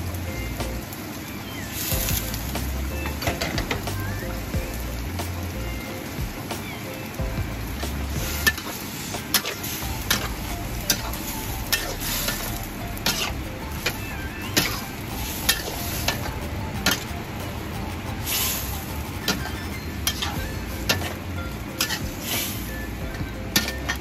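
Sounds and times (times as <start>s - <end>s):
food sizzling: 0.0s - 24.0s.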